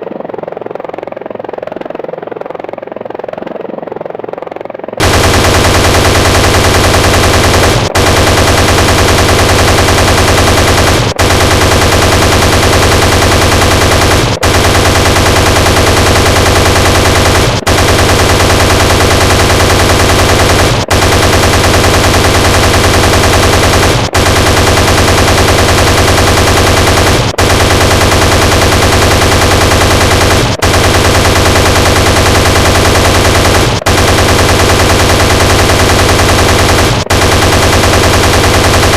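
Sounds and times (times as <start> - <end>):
chain gun firing rapidly: 5.0 - 38.9.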